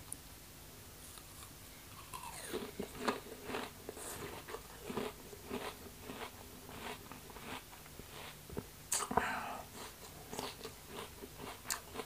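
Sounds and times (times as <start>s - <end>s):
crunchy apple chewing: 1.0s - 9.1s, 9.7s - 12.0s.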